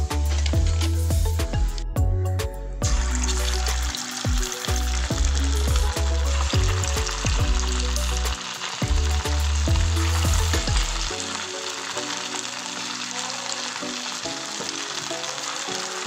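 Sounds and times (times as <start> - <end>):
batter sizzling in hot oil: 0.0 - 1.8, 2.8 - 16.0
background music with deep bass: 0.0 - 16.0.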